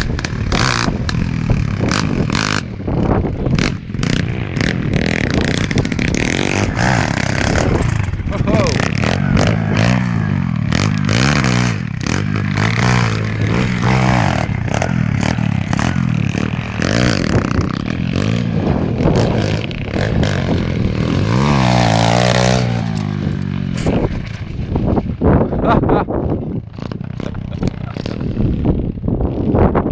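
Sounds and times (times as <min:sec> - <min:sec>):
pit bike engine revving: 0:00.0 - 0:29.9.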